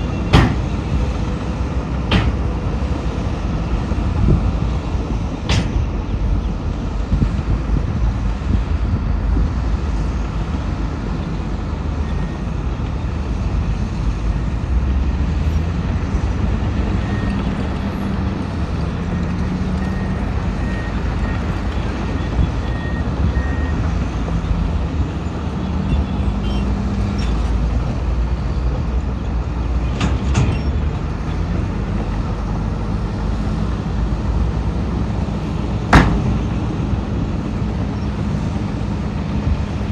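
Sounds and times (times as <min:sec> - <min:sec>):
heavy diesel machinery working: 0:00.0 - 0:39.9.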